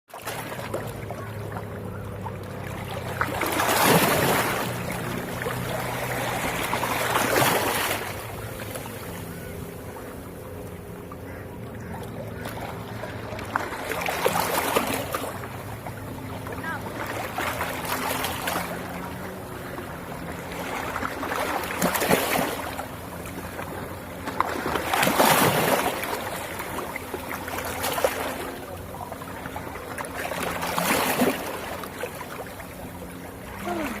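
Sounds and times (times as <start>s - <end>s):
waves washing in: 0.1s - 34.0s.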